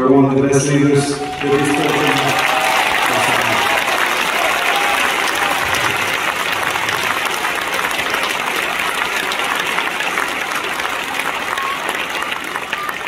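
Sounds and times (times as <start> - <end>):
stadium crowd applauding: 0.5 - 13.0.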